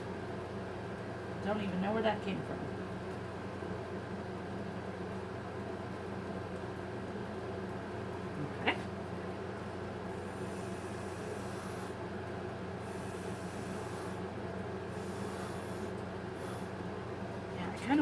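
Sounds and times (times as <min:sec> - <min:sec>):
background hum: 0:00.0 - 0:18.0.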